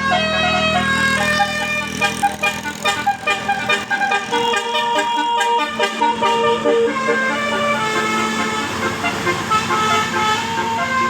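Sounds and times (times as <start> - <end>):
multi-tone musical bus horn: 0.0 - 11.0.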